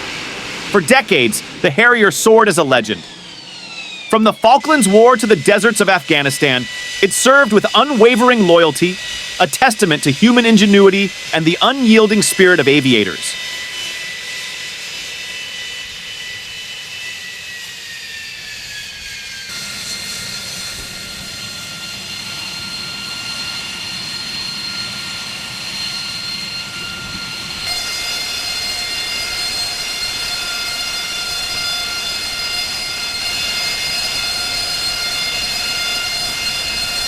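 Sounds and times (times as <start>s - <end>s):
jet engine whine and rumble: 0.0s - 37.0s.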